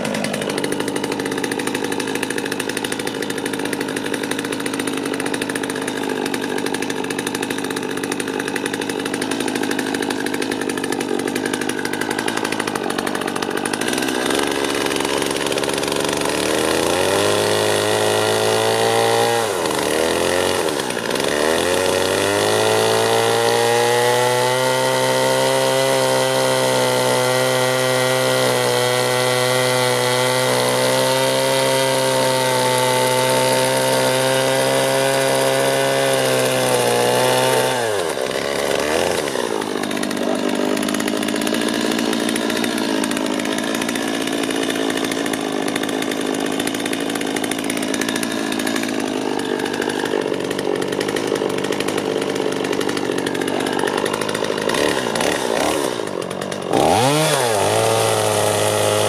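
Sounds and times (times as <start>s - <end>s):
power tool cutting wood: 0.0s - 59.0s.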